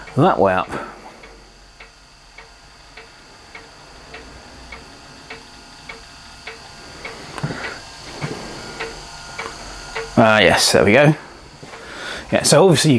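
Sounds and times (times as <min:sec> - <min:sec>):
soft ticking: 0:00.0 - 0:12.5.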